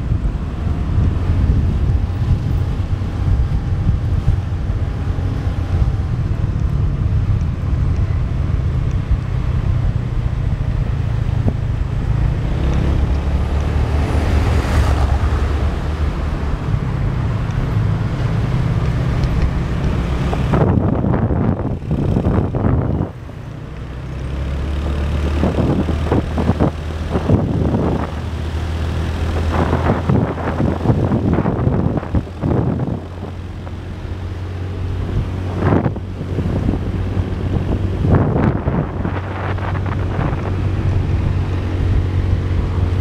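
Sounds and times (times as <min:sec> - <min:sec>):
traffic road noise: 0:00.0 - 0:43.0
wind rumbling on microphone: 0:00.0 - 0:43.0.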